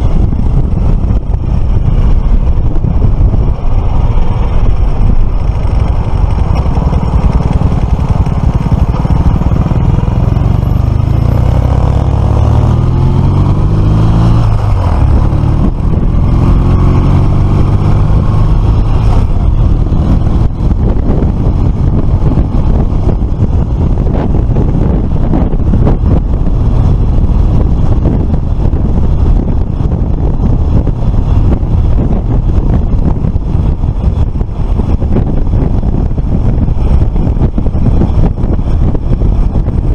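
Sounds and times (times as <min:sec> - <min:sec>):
scooter engine running: 0:00.0 - 0:39.9
wind rush on microphone: 0:00.0 - 0:39.9.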